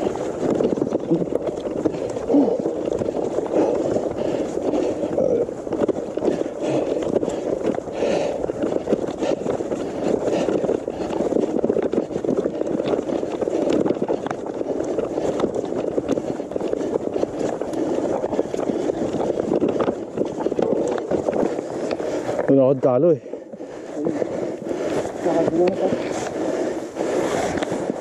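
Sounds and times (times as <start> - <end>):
bike rattling and knocking: 0.0 - 28.0
bike tyre noise on trail: 0.0 - 28.0.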